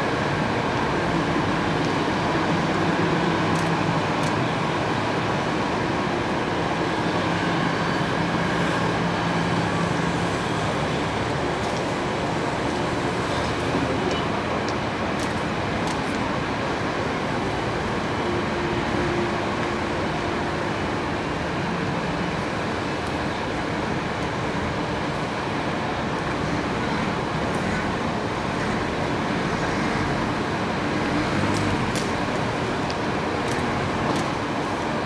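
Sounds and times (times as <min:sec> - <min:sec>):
city traffic hum: 0:00.0 - 0:35.0.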